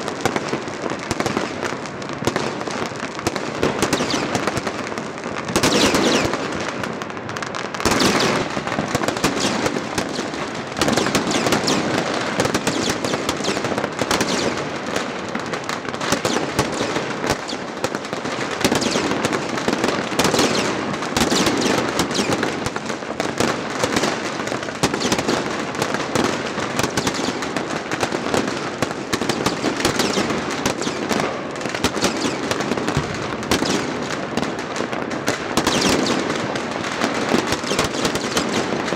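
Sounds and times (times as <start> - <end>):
fireworks crackling and banging: 0.0 - 38.9
loud firework bursts: 0.0 - 38.9.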